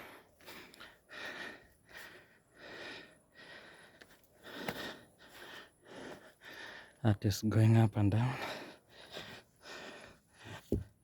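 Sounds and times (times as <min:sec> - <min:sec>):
man breathing hard: 0:00.0 - 0:07.0, 0:08.2 - 0:10.9.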